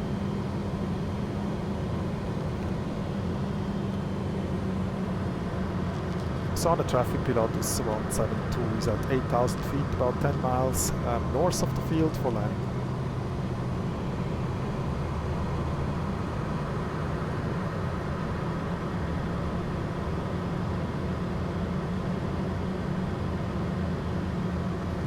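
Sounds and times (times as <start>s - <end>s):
jet cockpit low hum: 0.0s - 25.0s.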